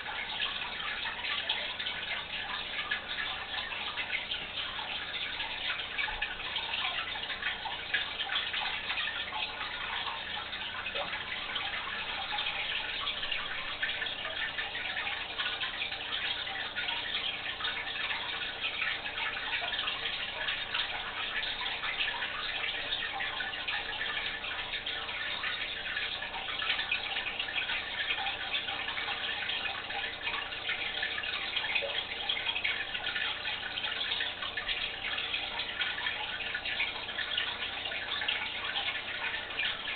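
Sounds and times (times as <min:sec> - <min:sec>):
aquarium water splashing and bubbling: 0:00.0 - 0:39.9
small drips crackling: 0:00.0 - 0:39.9.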